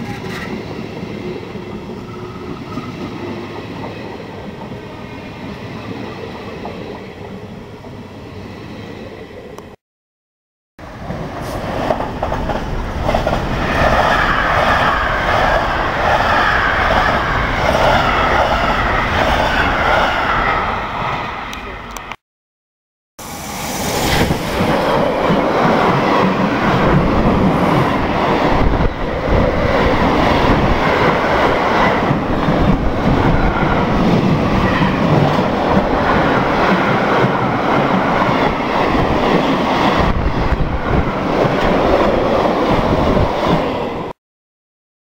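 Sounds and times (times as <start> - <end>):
freight train passing: 0.0 - 9.8, 10.8 - 22.2, 23.2 - 44.2.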